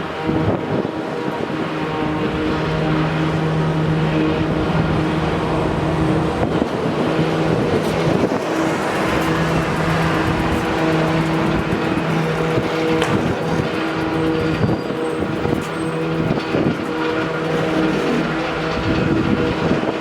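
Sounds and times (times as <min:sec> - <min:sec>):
engine humming: 0:01.9 - 0:20.0.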